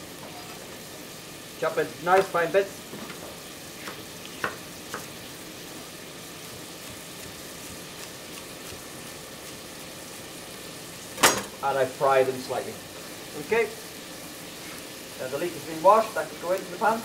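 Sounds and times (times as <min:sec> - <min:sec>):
vegetables frying in oil: 0:00.0 - 0:17.0.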